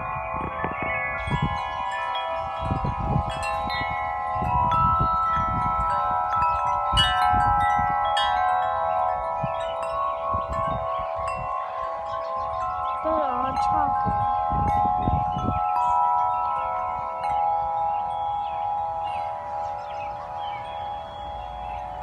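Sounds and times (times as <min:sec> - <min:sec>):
wind chimes ringing: 0:00.0 - 0:22.0
wind rumble on microphone: 0:00.0 - 0:22.0.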